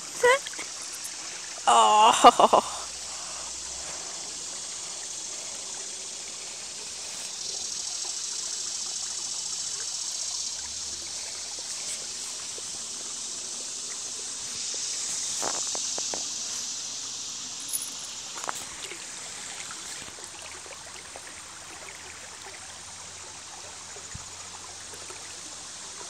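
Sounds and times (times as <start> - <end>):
creek trickling over rocks: 0.0 - 26.0.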